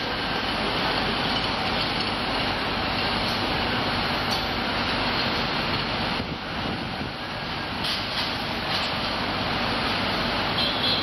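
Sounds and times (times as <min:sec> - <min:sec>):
heavy street traffic hum: 0:00.0 - 0:11.0.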